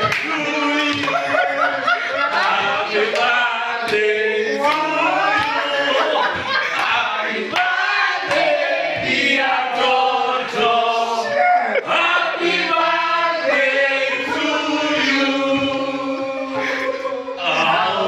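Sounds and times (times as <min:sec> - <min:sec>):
group of voices singing: 0:00.0 - 0:18.0.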